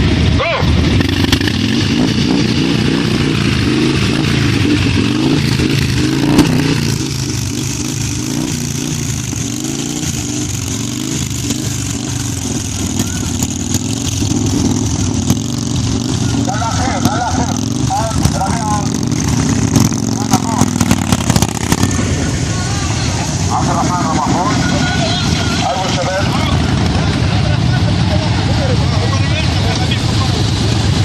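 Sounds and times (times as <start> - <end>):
motorcycle engines at low revs: 0.0 - 31.0.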